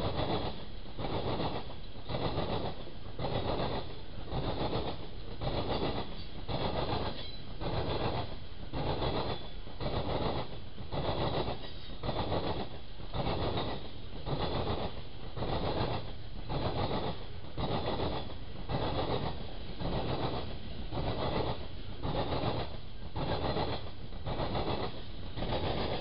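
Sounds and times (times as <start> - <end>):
railroad wheels clattering: 0.0 - 26.0.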